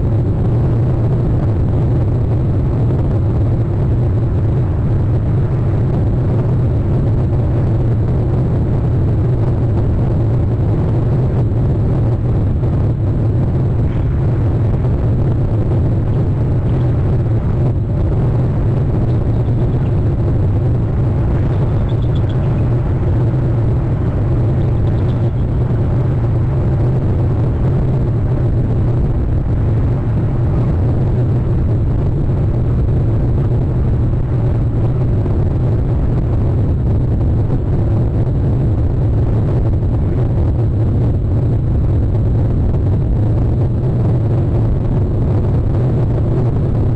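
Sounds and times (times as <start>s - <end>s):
loud low rumble: 0.0s - 46.9s.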